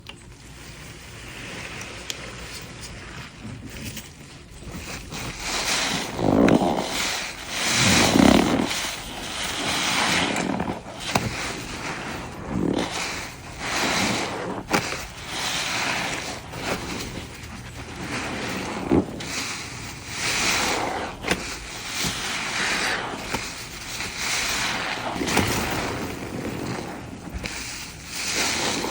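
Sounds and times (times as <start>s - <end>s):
foamy sponge squelching and squeaking: 0.0s - 28.9s.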